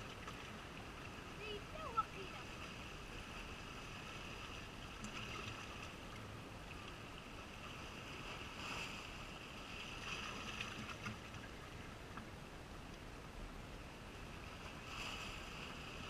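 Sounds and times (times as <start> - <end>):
calm sea: 0.0 - 16.0
light wind: 0.0 - 16.0.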